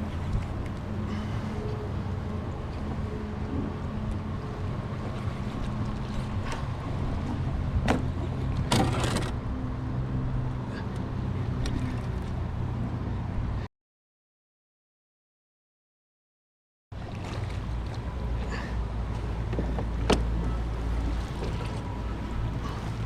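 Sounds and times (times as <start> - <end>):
boat engine humming: 0.0 - 13.6, 17.0 - 23.0
water: 0.0 - 13.7, 16.9 - 23.0.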